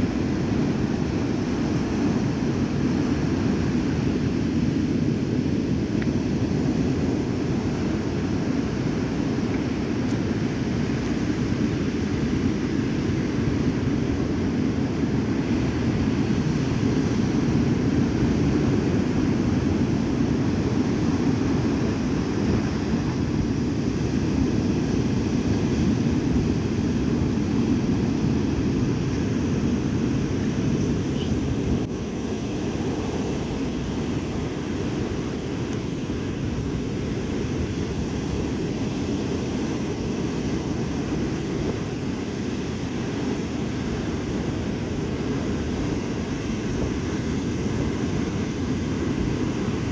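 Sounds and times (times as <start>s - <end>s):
waves breaking on shore: 0.0s - 49.9s.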